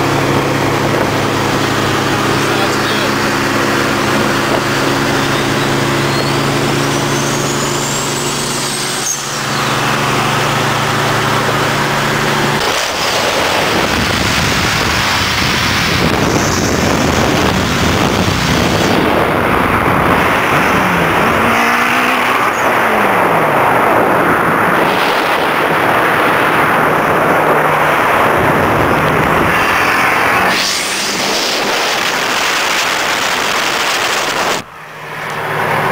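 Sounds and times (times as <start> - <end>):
car engine drone: 0.0 - 35.9
wind and road noise: 0.0 - 35.9.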